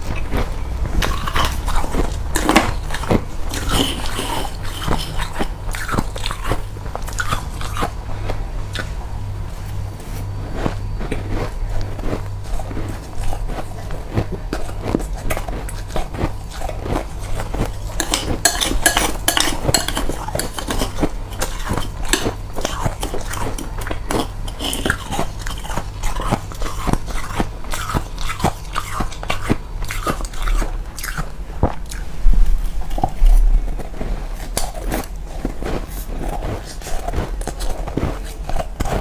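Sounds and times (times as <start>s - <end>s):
low steady hum: 0.0s - 39.0s
person chewing frost crunching: 0.0s - 39.0s.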